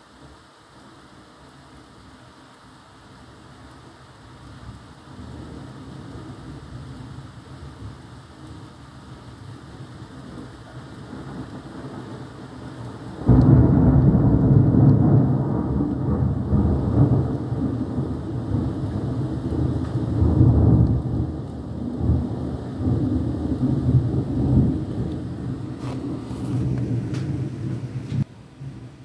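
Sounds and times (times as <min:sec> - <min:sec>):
rain: 0:00.0 - 0:29.0
thunder clap and rumble: 0:04.7 - 0:28.9.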